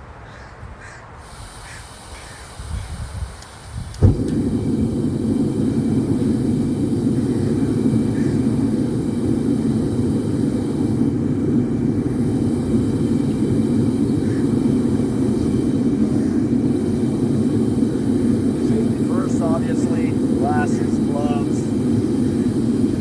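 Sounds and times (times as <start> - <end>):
forge rushing noise: 4.0 - 23.0.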